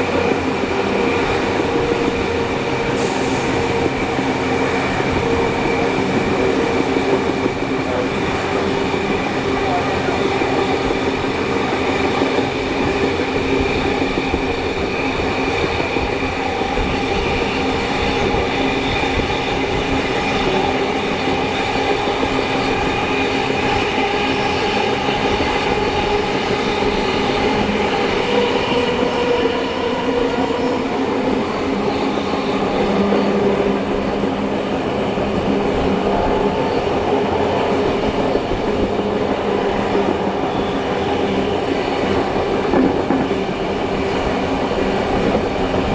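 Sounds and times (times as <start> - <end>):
carriages rumbling on rails: 0.0 - 45.9.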